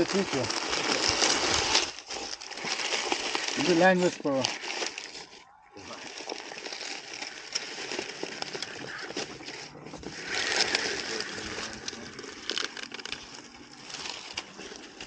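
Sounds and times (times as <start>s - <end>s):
dry leaves crackling and rustling: 0.0s - 15.0s.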